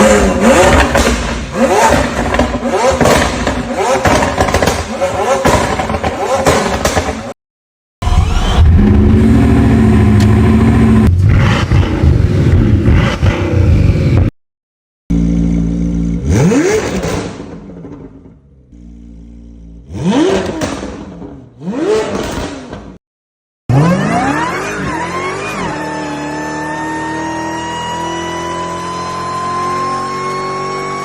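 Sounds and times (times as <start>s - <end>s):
car engine at high revs: 0.0s - 7.3s, 8.1s - 14.3s, 15.1s - 18.0s, 18.7s - 23.0s, 23.7s - 31.0s
car engine idling and revving: 0.0s - 7.4s, 8.0s - 14.3s, 15.1s - 23.0s, 23.7s - 31.0s.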